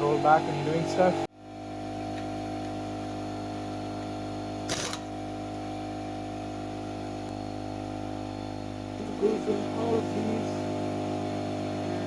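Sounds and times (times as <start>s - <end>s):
air compressor motor hum: 0.0s - 12.0s.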